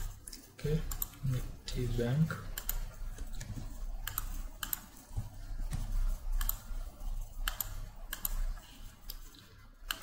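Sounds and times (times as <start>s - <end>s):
mouse clicking: 0.0s - 1.2s, 2.3s - 10.0s
keyboard typing: 0.0s - 10.0s.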